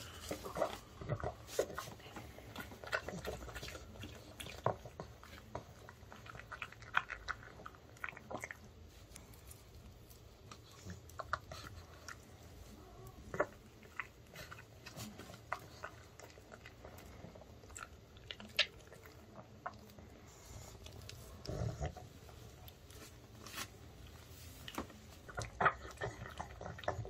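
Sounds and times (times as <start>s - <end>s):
dog chewing wet crunches: 0.0s - 27.0s.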